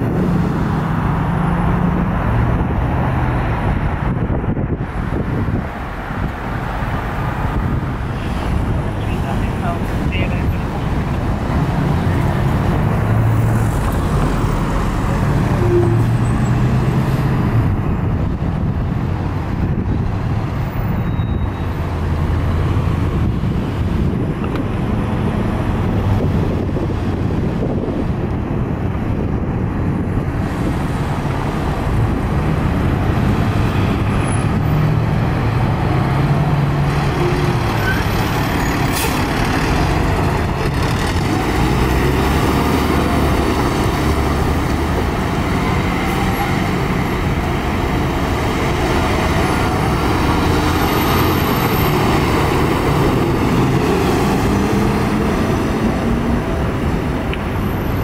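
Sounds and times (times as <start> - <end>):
heavy truck engines rumbling: 0.0 - 58.0
road traffic: 0.0 - 58.0.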